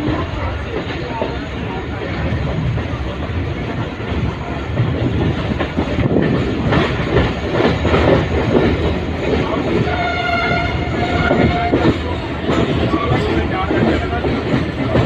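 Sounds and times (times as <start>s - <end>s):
train wheels clattering: 0.0s - 15.0s.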